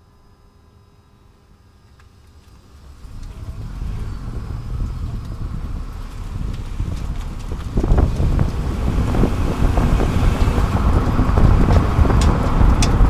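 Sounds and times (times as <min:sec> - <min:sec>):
road and tyre rumble: 0:01.6 - 0:13.0.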